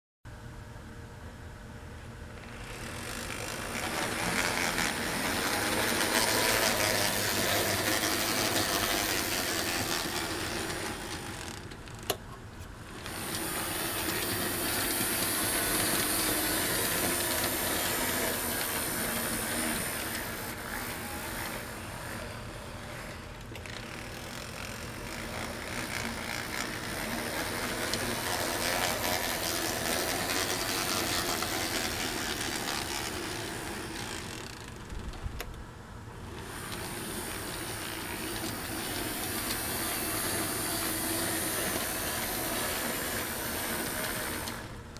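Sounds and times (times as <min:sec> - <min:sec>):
model locomotive motor whirring: 0:02.0 - 0:44.9.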